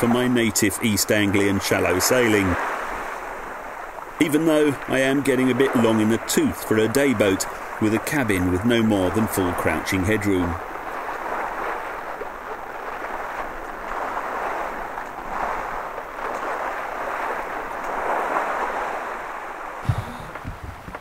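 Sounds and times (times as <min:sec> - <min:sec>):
sea wash rushing: 0:00.0 - 0:21.0
wind buffeting microphone: 0:00.0 - 0:21.0.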